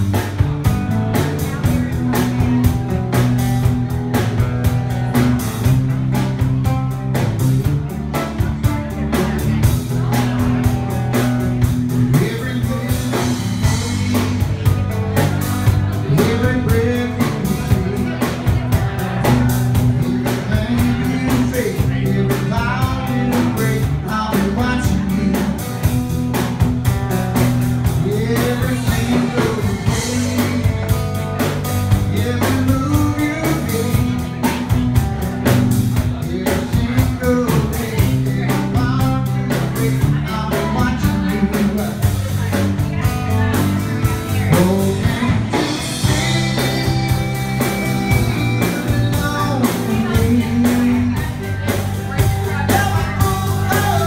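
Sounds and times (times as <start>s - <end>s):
drum kit beat: 0.0s - 54.0s
electric bass: 0.0s - 54.0s
strummed acoustic guitar: 0.0s - 54.0s
person singing: 7.6s - 26.5s, 27.8s - 54.0s.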